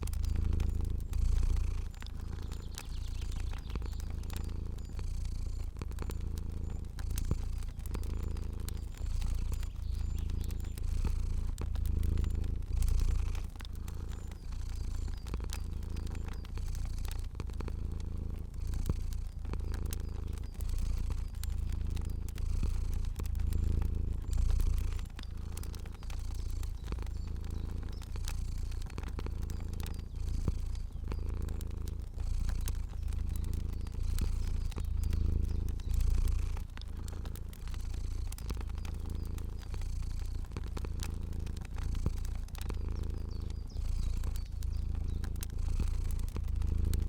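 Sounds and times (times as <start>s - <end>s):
cat purring: 0.0s - 47.0s
wood fire crackles: 0.0s - 47.0s.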